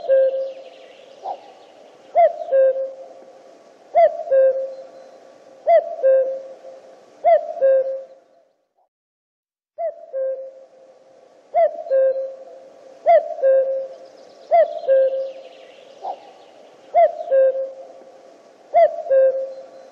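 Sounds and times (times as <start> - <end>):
cuckoo calling: 0.0 - 8.5, 9.8 - 10.8, 11.5 - 19.9.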